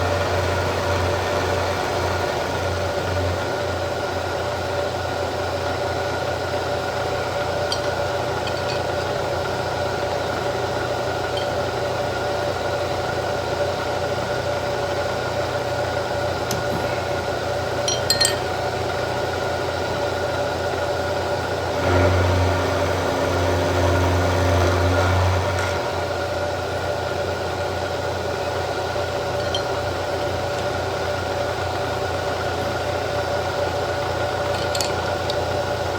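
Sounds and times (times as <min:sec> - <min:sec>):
milling machine cutting metal: 0:00.0 - 0:35.9.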